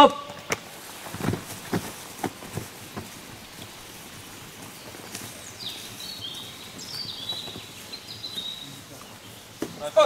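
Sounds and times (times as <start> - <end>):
outdoor background hiss: 0.0 - 10.0
songbird singing: 0.0 - 10.0.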